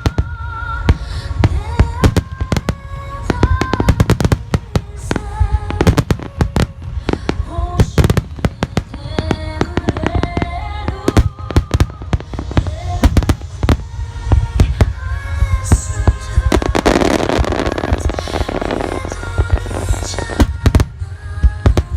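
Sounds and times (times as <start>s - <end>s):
fireworks cracks and booms: 0.0s - 21.9s
low rumble: 0.0s - 21.9s
music playing: 0.0s - 21.9s.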